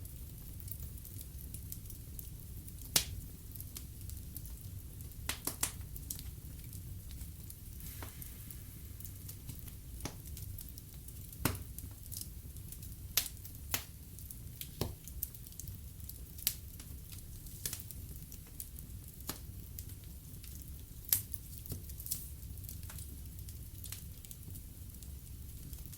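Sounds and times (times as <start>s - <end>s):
burning logs popping: 0.0s - 25.9s
low rumble of flames: 0.0s - 25.9s.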